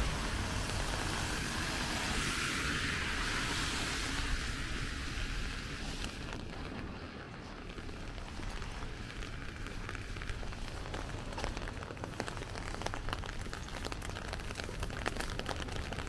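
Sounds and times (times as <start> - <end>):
car tyres hissing on wet road: 0.0 - 16.0
raindrops ticking: 0.0 - 16.0.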